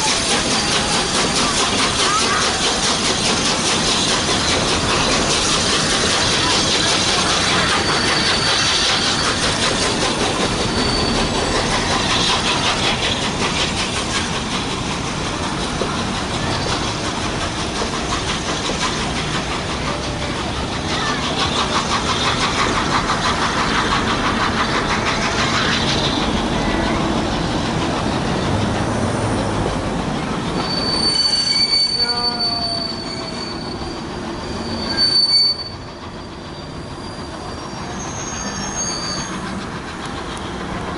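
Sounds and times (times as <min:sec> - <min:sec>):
high wheel squeal: 0:00.0 - 0:14.4, 0:15.8 - 0:27.5, 0:30.2 - 0:39.8
train wheels rumbling and clattering: 0:00.0 - 0:40.9.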